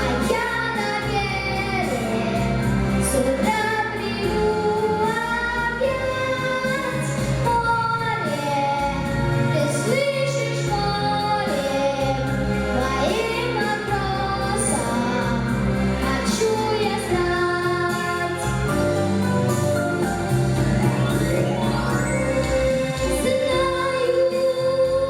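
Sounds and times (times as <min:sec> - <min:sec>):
boy singing pop song: 0:00.0 - 0:20.3, 0:21.2 - 0:25.0
instrumental accompaniment: 0:00.0 - 0:25.0.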